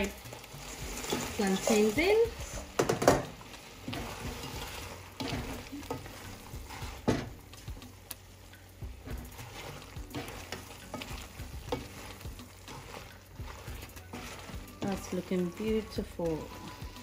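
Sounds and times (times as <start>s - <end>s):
spatula scraping and knocking a pan: 0.0s - 7.9s, 8.8s - 17.0s.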